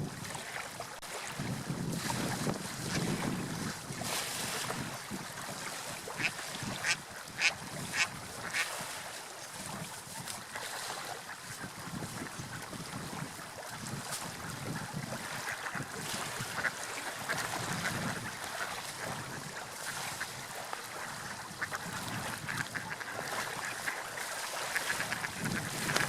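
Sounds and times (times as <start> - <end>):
water waves lapping and splashing: 0.0 - 26.0.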